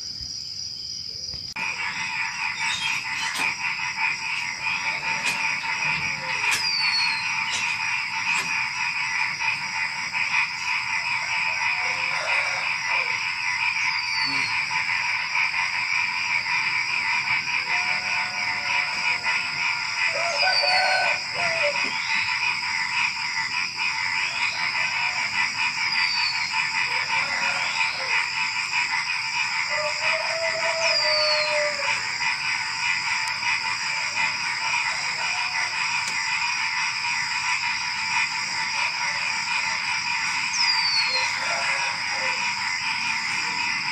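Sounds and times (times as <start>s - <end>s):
crickets chirping: 0.0s - 43.9s
frogs calling: 0.0s - 43.9s.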